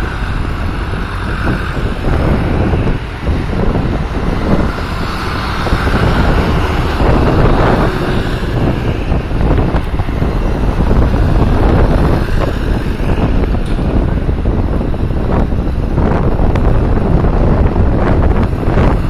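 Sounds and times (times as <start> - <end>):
tractor engines running: 0.0 - 19.0
wind buffeting microphone: 0.0 - 19.0.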